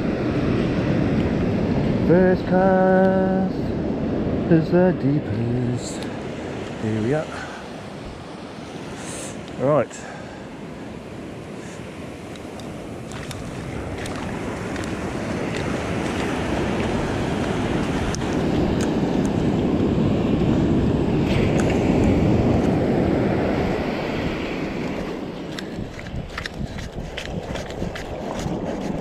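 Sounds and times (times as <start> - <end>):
ocean surf breaking on beach: 0.0 - 29.0.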